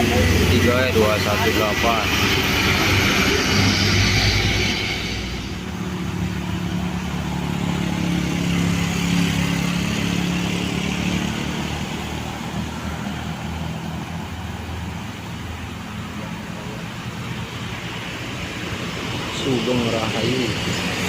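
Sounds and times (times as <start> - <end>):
bus diesel engine passing: 0.0 - 21.0.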